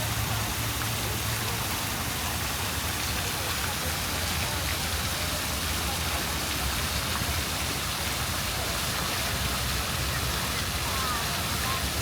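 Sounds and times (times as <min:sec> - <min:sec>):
rain on streets: 0:00.0 - 0:12.0.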